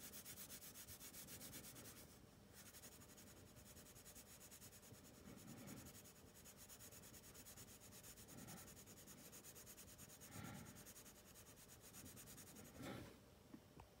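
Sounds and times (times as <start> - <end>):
colored pencil rubbing on paper: 0.0 - 13.0.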